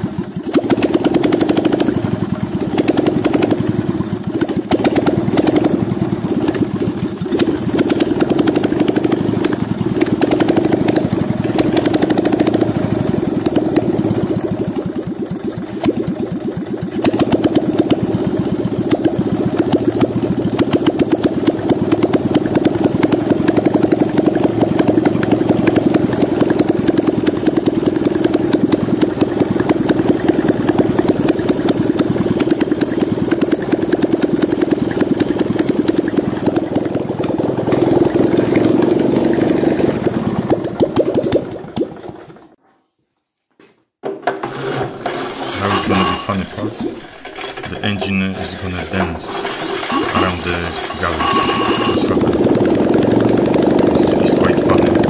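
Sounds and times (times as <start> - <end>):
car engine running with timing chain: 0.0 - 42.6, 44.4 - 55.0.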